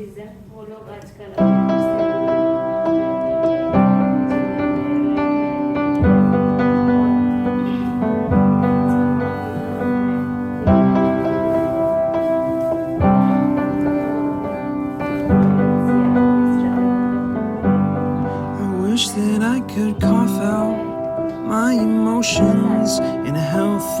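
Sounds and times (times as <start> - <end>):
piano chords: 1.3 - 24.0.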